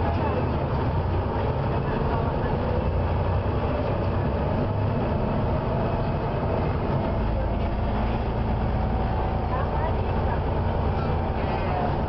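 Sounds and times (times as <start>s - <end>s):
bus engine and road drone: 0.0s - 12.0s.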